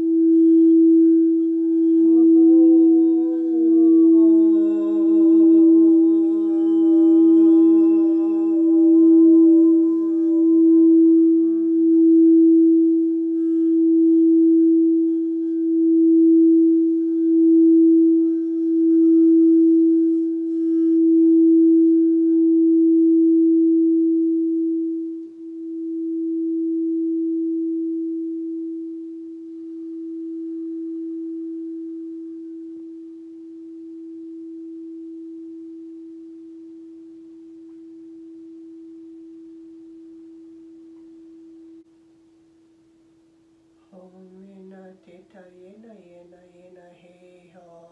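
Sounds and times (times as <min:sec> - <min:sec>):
singing bowl ringing: 0:00.0 - 0:41.9.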